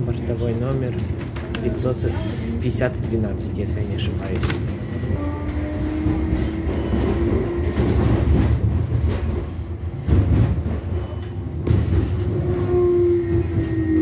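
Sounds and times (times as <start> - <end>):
tram wheels rumbling: 0.0 - 14.0.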